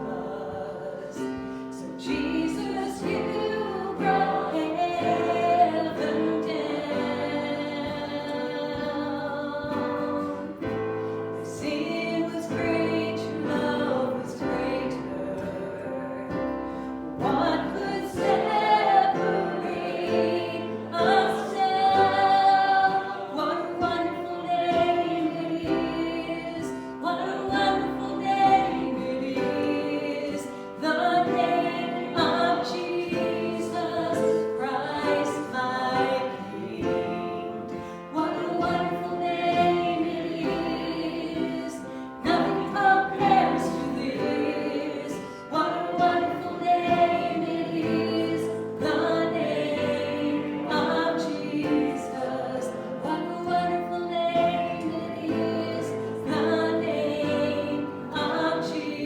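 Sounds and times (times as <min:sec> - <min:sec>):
group singing a worship song: 0:00.0 - 0:59.0.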